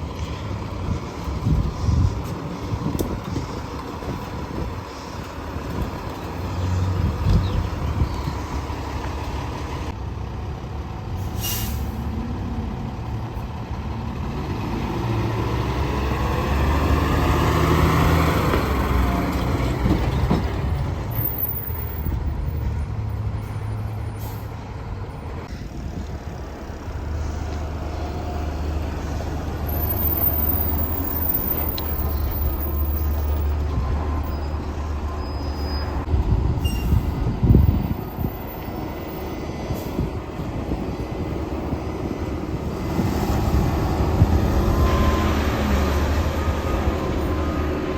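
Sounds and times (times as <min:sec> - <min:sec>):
diesel fire truck engine revving: 0:00.0 - 0:21.2, 0:21.8 - 0:47.9.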